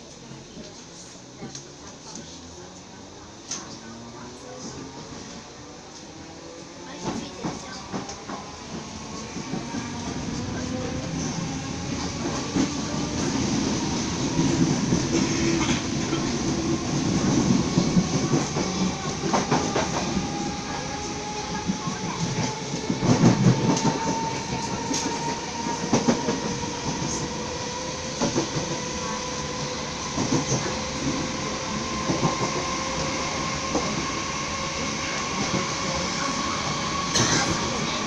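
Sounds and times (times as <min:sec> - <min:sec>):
train wheels rumbling on rails: 0:00.2 - 0:38.0.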